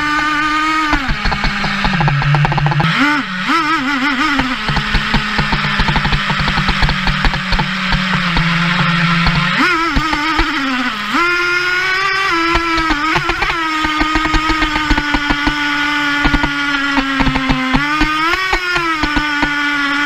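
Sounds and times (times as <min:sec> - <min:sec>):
sharp knocks: 0:00.0 - 0:02.9, 0:04.3 - 0:10.7, 0:12.4 - 0:19.6
small nitro engine whining: 0:00.0 - 0:20.0.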